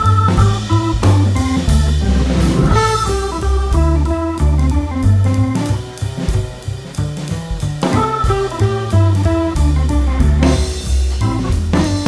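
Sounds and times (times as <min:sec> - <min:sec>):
guitar melody: 0:00.0 - 0:06.6, 0:07.8 - 0:12.0
bass line: 0:00.0 - 0:12.0.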